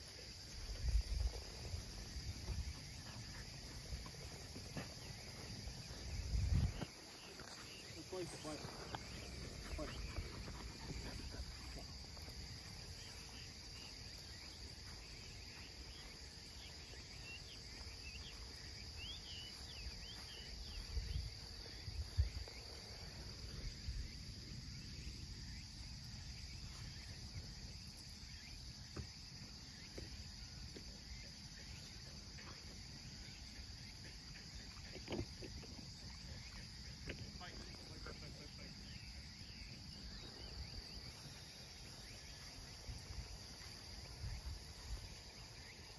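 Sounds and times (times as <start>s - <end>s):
crickets and insects chirping: 0.0s - 45.9s.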